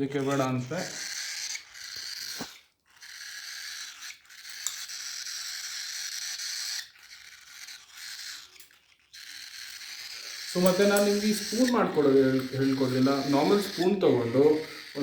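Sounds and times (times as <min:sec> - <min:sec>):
chicks begging with raspy calls: 0:00.0 - 0:15.0.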